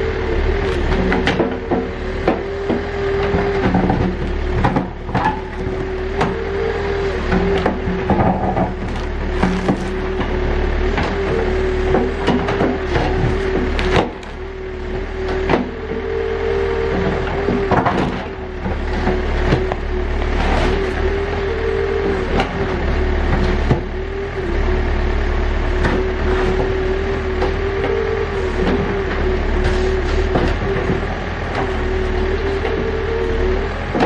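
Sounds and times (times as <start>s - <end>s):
diesel engine whining under load: 0.0s - 34.0s.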